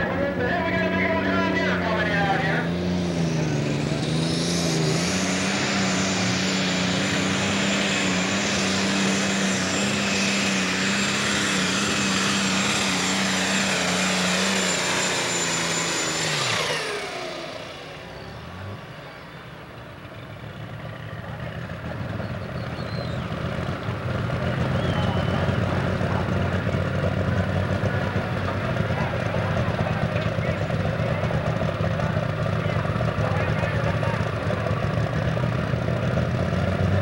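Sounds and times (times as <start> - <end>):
tractor diesel engine: 0.0 - 37.0.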